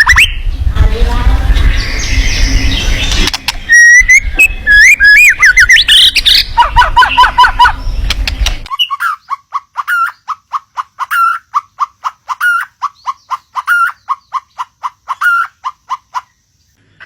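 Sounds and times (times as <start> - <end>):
bird calling in quick notes: 1.7 - 16.3.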